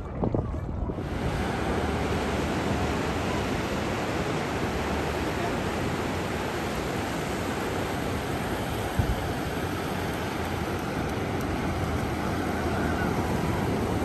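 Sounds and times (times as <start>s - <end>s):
wind rumble on microphone: 0.0s - 14.0s
ocean surf breaking: 1.0s - 14.0s.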